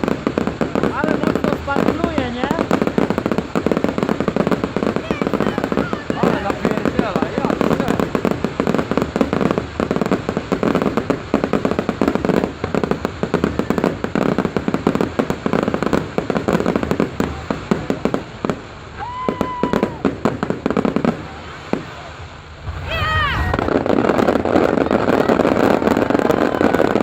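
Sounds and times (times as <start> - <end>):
firework whistling: 0.0 - 12.6, 16.8 - 27.0
fireworks crackling bangs: 0.0 - 27.0.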